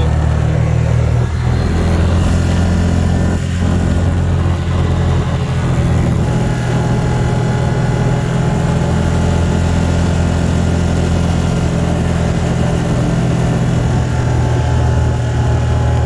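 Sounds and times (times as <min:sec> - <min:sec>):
engine and road noise in cabin: 0:00.0 - 0:16.0.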